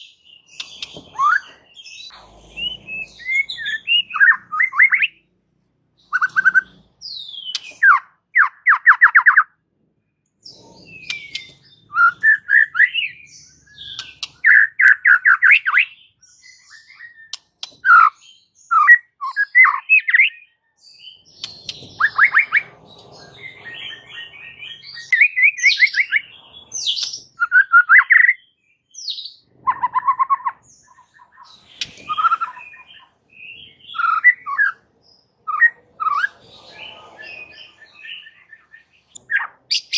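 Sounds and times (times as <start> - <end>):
songbird whistles and trills: 0.0 - 5.2, 6.0 - 9.6, 10.4 - 39.9.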